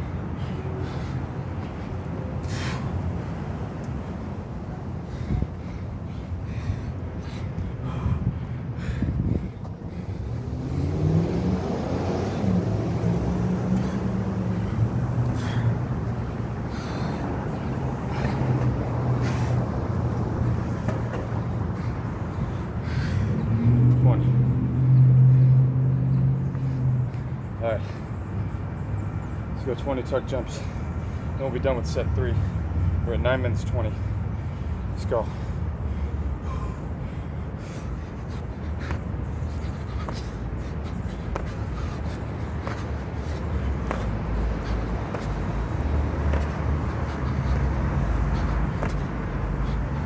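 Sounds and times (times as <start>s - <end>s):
street traffic rumble: 0.0s - 50.0s.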